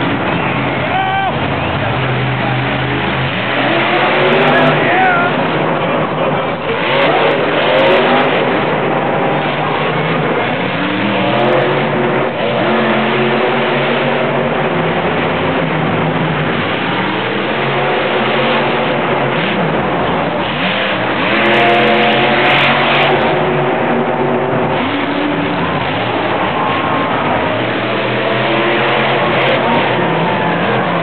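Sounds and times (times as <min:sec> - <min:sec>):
monster truck engines revving: 0:00.0 - 0:31.0.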